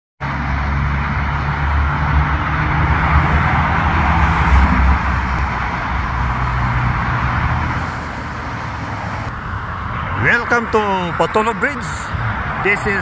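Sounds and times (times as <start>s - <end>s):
cars passing with tyre hiss: 0.2s - 13.0s.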